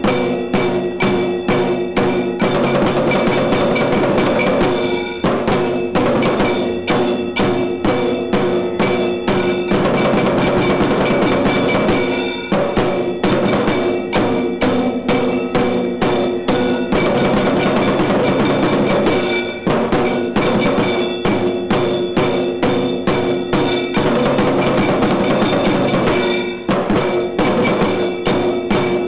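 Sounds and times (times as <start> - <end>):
drums: 0.0 - 29.0
ringing metal percussion: 0.0 - 29.0.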